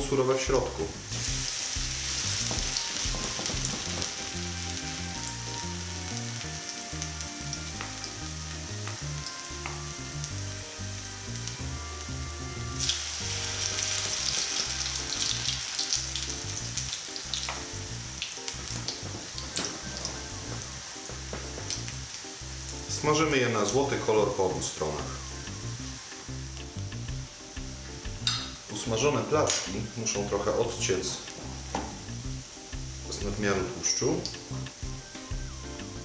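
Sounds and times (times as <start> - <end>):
pancakes sizzling in oil: 0.0 - 36.0.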